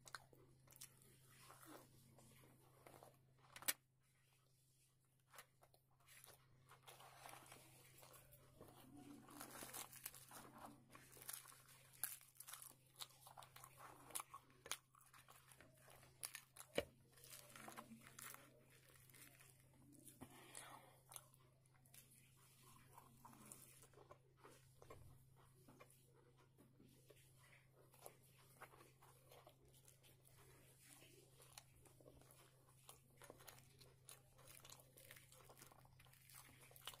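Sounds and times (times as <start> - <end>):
chewing food: 0.0 - 3.8, 5.3 - 37.0.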